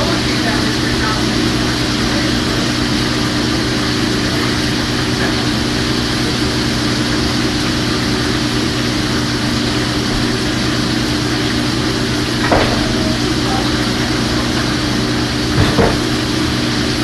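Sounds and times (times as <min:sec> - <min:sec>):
exhaust fan drone: 0:00.0 - 0:17.0.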